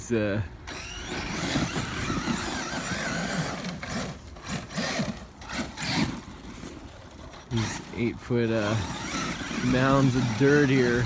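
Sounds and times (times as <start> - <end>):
electric motor whining: 0.6 - 11.0.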